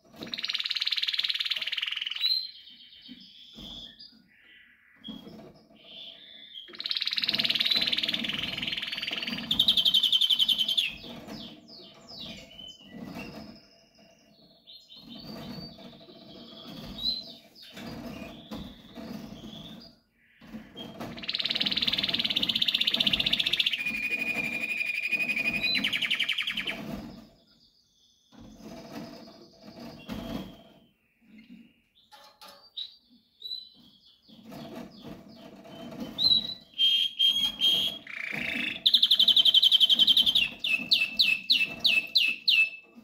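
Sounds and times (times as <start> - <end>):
canary singing trills: 0.1 - 43.0.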